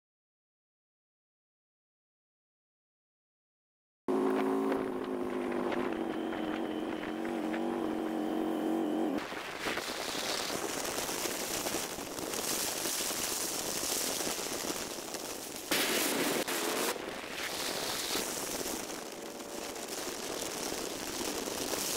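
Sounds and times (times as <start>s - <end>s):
motorcycle engine drone: 4.1s - 21.9s
wind rushing over microphone: 4.2s - 21.9s.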